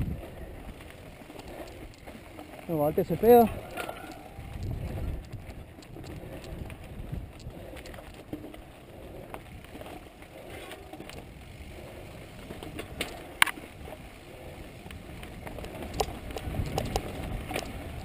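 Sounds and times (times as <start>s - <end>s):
bike rattles and clicks: 0.0s - 18.0s
bike tyres rumbling on dirt: 0.0s - 18.0s.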